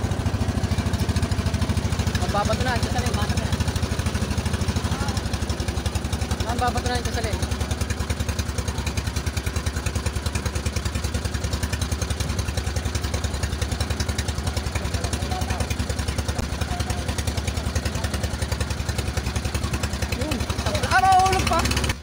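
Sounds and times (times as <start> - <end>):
small boat engine chugging: 0.0 - 22.0.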